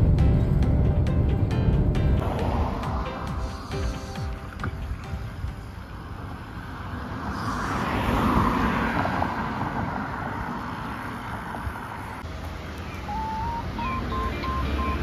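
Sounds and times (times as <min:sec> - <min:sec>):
wind rumble on microphone: 0:00.0 - 0:12.2
car passing by: 0:01.9 - 0:15.0.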